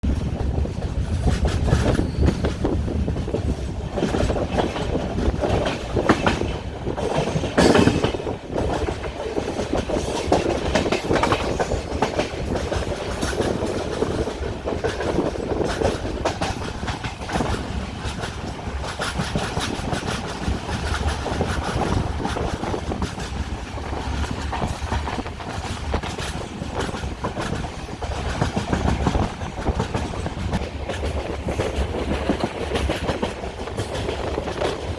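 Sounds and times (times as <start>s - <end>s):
train rumbling on track: 0.0s - 34.9s
wheels clicking over rail joints: 0.1s - 34.9s.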